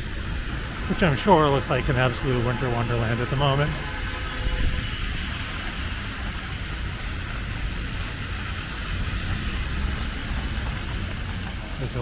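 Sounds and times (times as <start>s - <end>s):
car engines rumbling: 0.0s - 12.0s
tyres hissing on snowy road: 0.0s - 12.0s.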